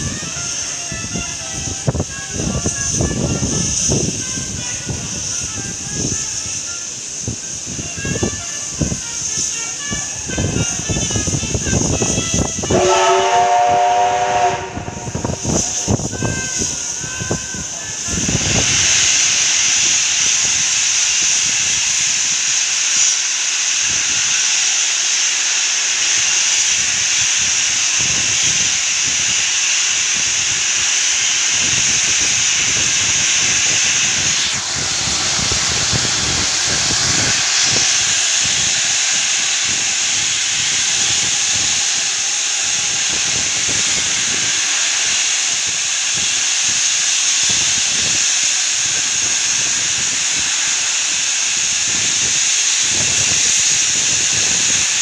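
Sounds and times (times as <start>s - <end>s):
steam locomotive blowing off steam: 0.0s - 55.0s.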